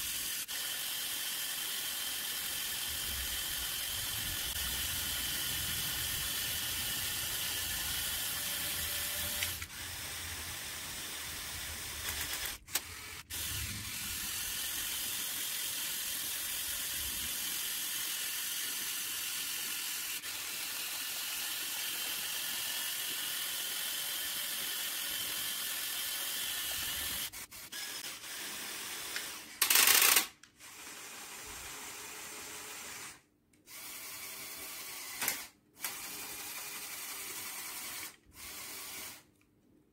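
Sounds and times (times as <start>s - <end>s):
small electric motors whirring: 0.0s - 39.3s.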